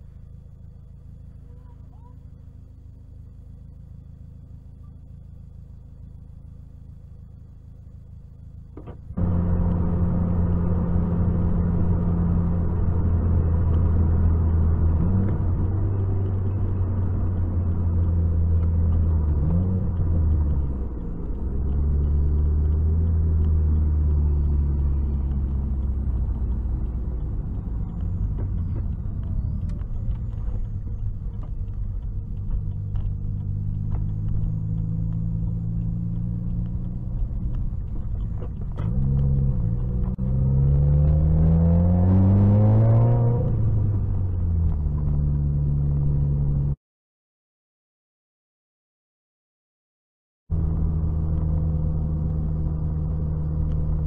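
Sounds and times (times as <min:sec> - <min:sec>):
car engine and road noise: 0:00.0 - 0:46.8, 0:50.5 - 0:54.0.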